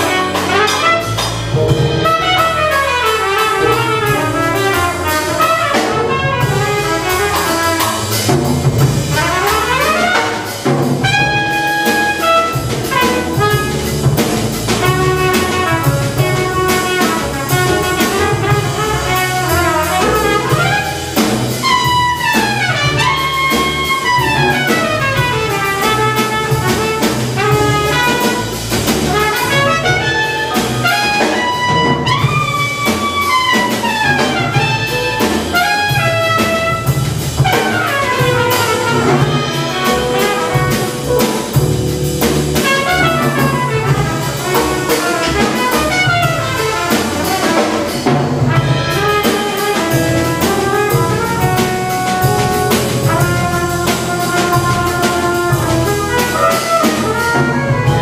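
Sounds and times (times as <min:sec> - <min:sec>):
jazz group playing: 0:00.0 - 0:58.0
trumpet runs: 0:00.0 - 0:58.0.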